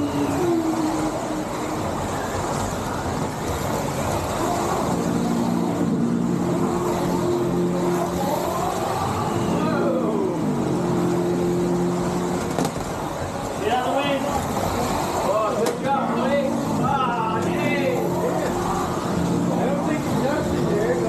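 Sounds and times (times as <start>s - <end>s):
slot car motors whining: 0.0s - 21.0s.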